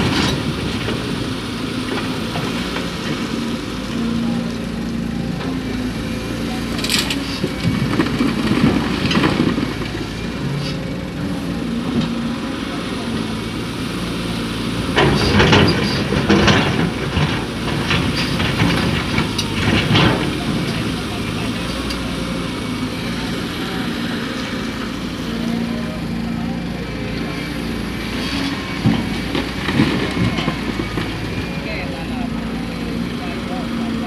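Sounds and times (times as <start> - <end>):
diesel engine rumbling: 0.0 - 34.0.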